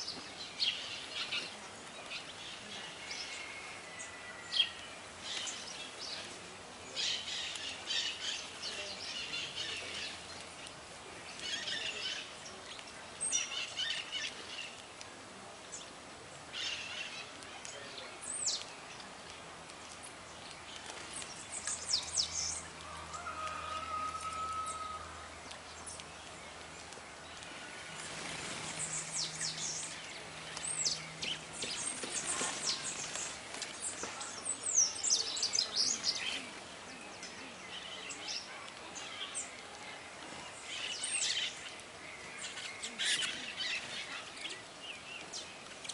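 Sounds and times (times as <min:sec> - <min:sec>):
songbirds chirping: 0:00.0 - 0:45.9
steady background hiss: 0:00.0 - 0:45.9.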